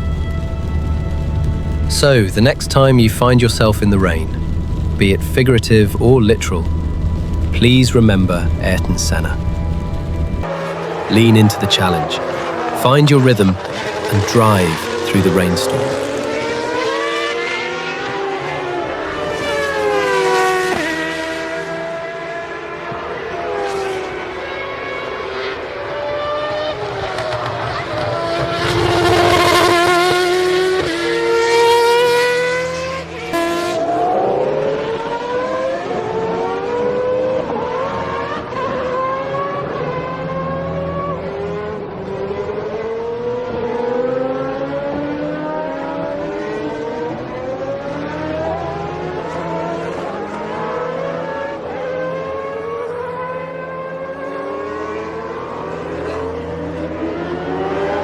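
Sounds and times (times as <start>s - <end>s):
racing car engines accelerating: 0.0s - 58.0s.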